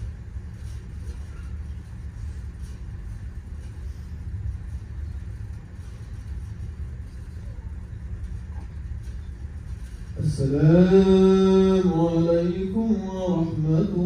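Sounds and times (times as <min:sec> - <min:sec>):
hall room tone rumble: 0:00.0 - 0:14.0.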